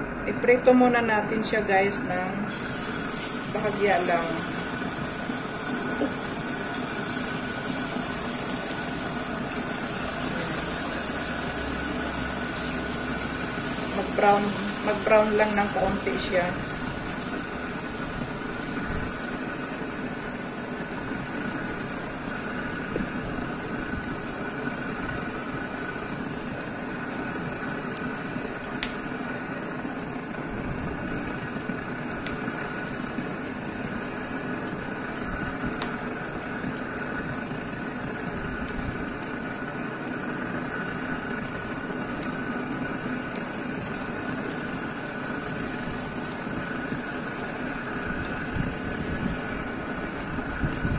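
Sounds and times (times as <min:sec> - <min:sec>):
chicken sizzling in oil: 0:02.5 - 0:50.9.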